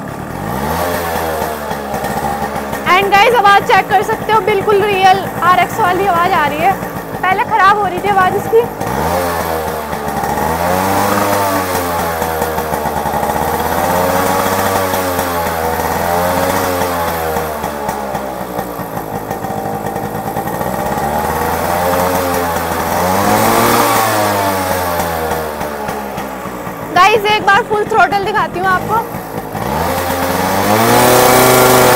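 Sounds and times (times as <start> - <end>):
two-stroke motorcycle engine revving: 0.0 - 31.9.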